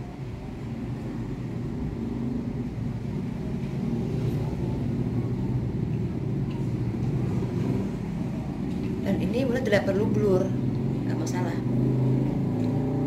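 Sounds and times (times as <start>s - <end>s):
low steady rumble: 0.0s - 12.4s.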